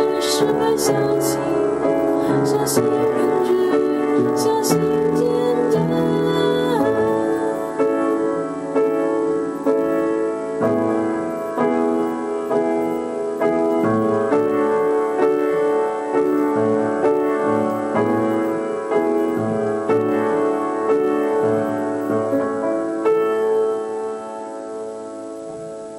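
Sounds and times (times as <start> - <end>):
slow piano chords: 0.0 - 25.9.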